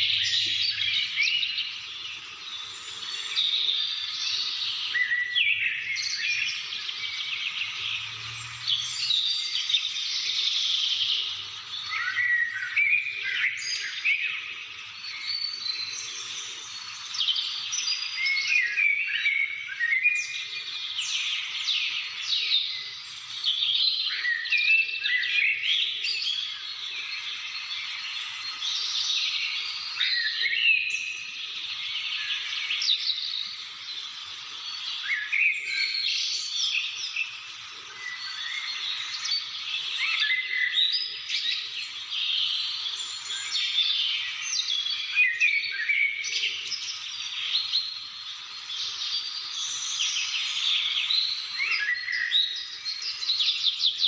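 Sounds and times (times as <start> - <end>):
many birds chirping: 0.0 - 54.0.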